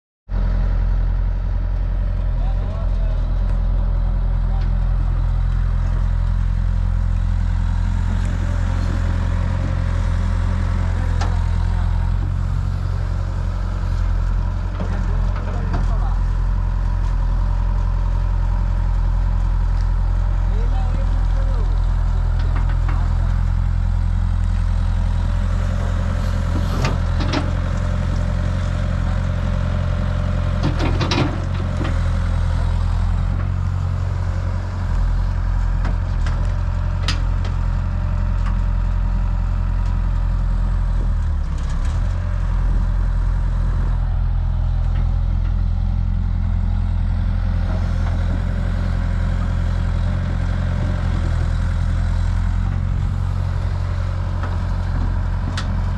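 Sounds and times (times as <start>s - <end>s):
heavy diesel engine running: 0.3s - 55.9s.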